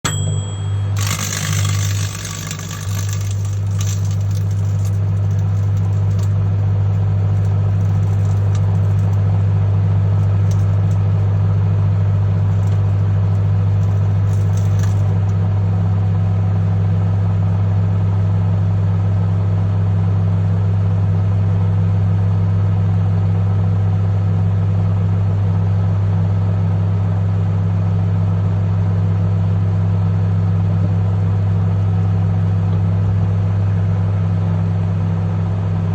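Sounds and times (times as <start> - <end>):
microwave oven humming: 0.0 - 35.9.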